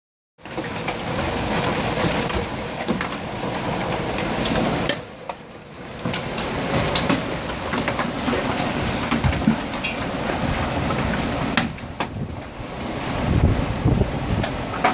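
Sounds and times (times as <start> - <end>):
hailstones pelting down: 0.4 - 14.9.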